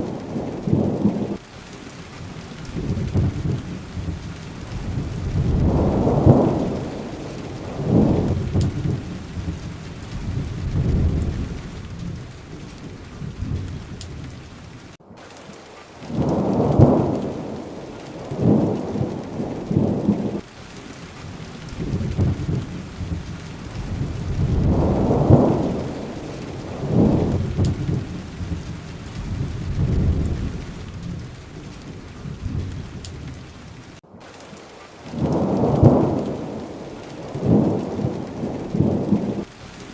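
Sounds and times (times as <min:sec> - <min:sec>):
rolls of thunder: 0:00.0 - 0:01.4, 0:02.7 - 0:14.4, 0:16.1 - 0:20.4, 0:21.6 - 0:33.5, 0:35.1 - 0:39.5
steady rain: 0:00.0 - 0:39.9.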